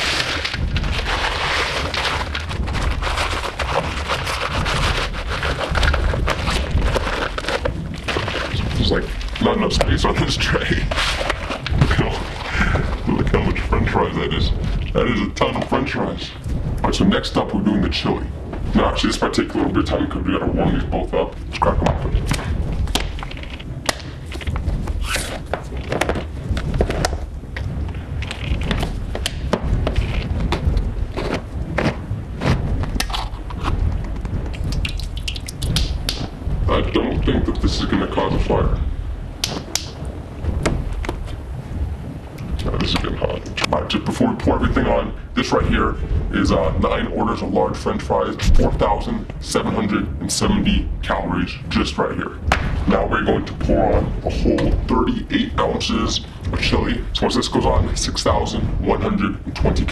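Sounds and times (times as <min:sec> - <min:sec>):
low steady rumble: 0:00.0 - 0:59.9.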